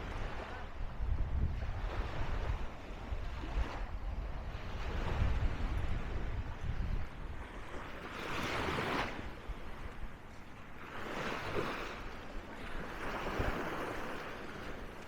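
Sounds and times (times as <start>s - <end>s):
small waves washing on sand: 0.0s - 15.0s.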